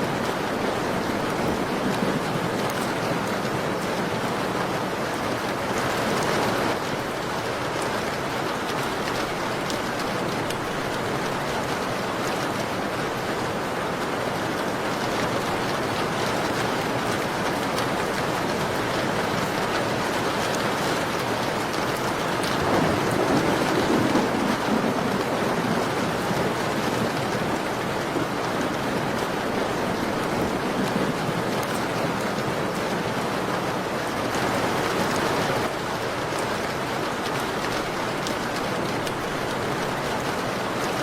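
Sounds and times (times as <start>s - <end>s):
rain falling on a window: 0.0s - 41.0s.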